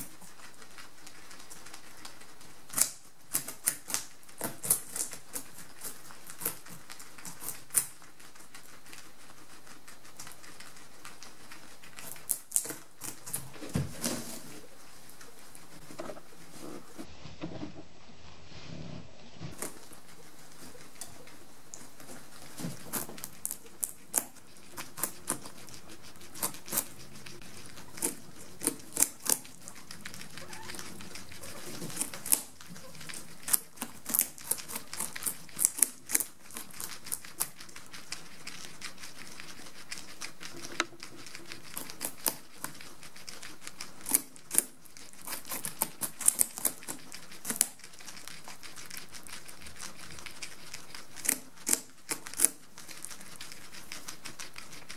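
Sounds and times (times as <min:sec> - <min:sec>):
guinea pigs gnawing: 0:00.0 - 0:17.6, 0:19.4 - 0:54.9.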